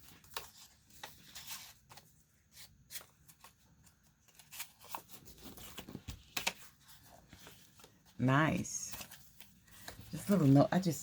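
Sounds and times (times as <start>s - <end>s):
paper envelopes rustling: 0.0s - 11.0s.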